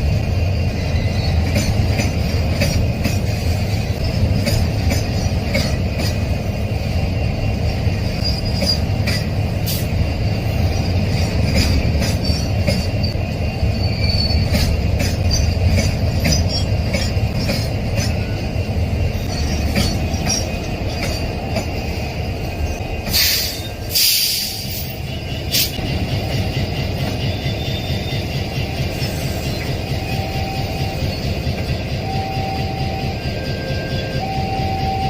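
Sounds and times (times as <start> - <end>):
train wheels rumbling on rails: 0.0 - 35.0
high wheel squeal: 0.3 - 6.3, 7.4 - 25.9, 26.9 - 35.0.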